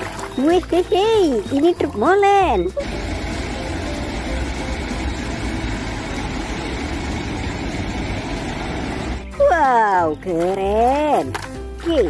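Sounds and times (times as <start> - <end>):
truck engine idling: 0.0 - 10.2.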